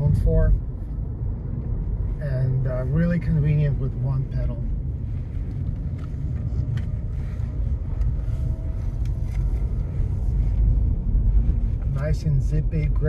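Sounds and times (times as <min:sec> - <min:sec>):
road and tyre rumble in car: 0:00.0 - 0:13.0.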